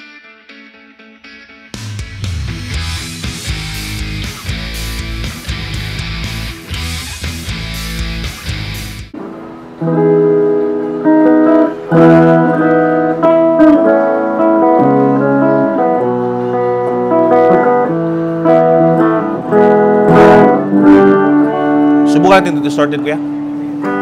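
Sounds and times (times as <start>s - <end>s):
clean electric guitar picking: 0.0s - 24.0s
distorted electric guitar burst: 0.0s - 24.0s.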